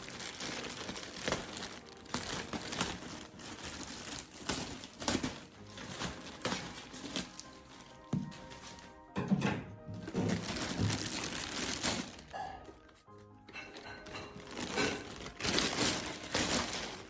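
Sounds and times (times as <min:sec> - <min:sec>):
packaging crinkling: 0:00.0 - 0:09.2, 0:09.9 - 0:17.0.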